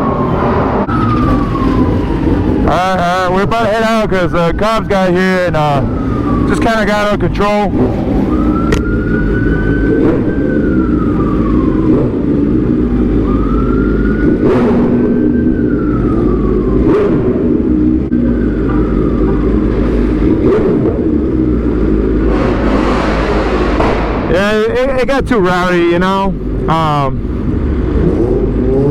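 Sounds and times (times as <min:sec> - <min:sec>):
police siren wailing: 0:00.0 - 0:28.9.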